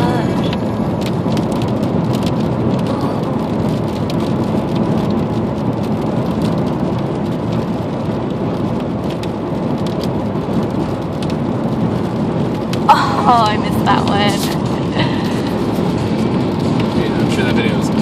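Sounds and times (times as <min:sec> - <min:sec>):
raindrops clicking on a surface: 0:00.0 - 0:18.0
steady rain: 0:00.0 - 0:18.0.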